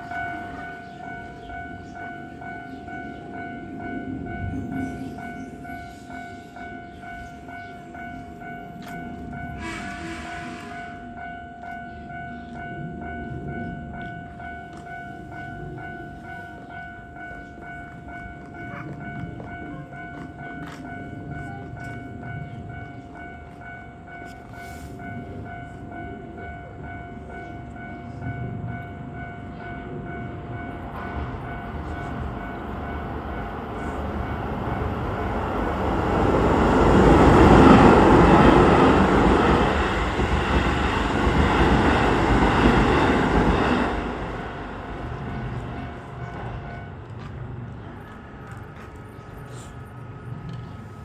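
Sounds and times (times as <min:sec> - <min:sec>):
level-crossing alarm ringing: 0:00.0 - 0:50.4
train passing: 0:00.0 - 0:51.0.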